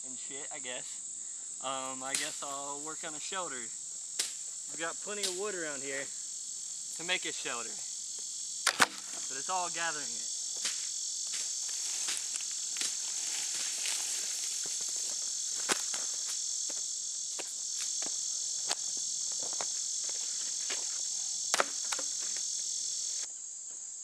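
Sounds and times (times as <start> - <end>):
crickets and insects chirping: 0.0 - 24.0.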